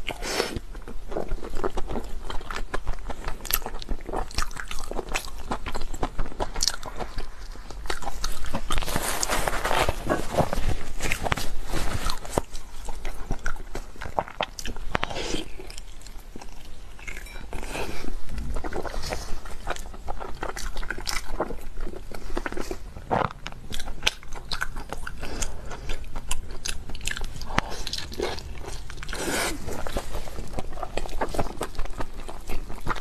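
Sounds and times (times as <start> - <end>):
wet chewing and mouth smacks: 0.0 - 33.0.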